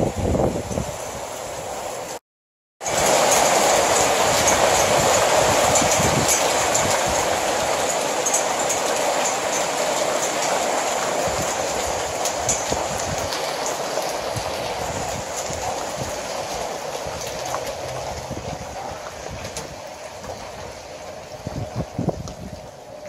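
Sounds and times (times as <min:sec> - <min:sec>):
rain pouring: 0:00.0 - 0:02.2, 0:02.8 - 0:23.0.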